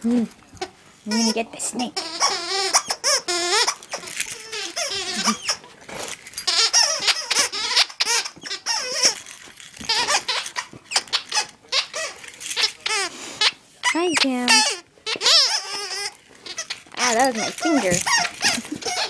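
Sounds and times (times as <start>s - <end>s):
dog toy squeaking: 0.6s - 5.7s, 6.3s - 19.0s.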